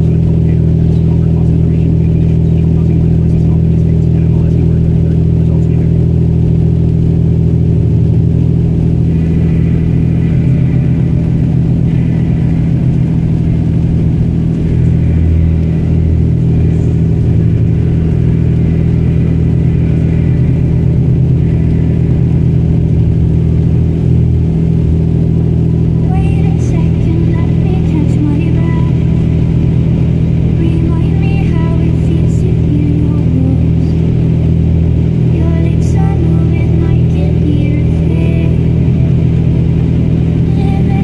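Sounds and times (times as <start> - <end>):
road noise: 0.0 - 41.0
vehicle engine drone: 0.0 - 41.0.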